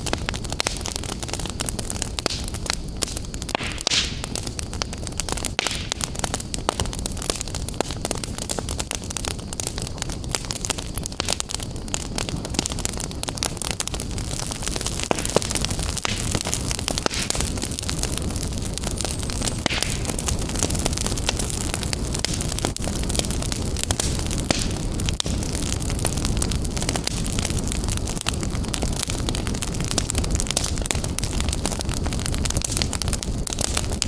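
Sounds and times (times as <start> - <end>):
fire crackling in a fireplace: 0.0 - 34.0.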